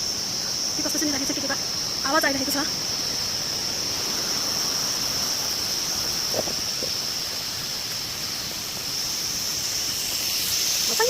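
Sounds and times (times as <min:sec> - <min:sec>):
insects droning: 0:00.0 - 0:11.0
rushing hiss: 0:00.0 - 0:11.0.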